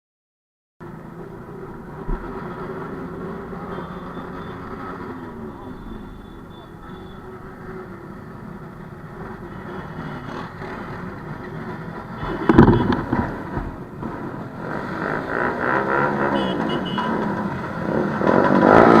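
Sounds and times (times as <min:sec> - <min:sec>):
engines revving: 0:00.8 - 0:19.0.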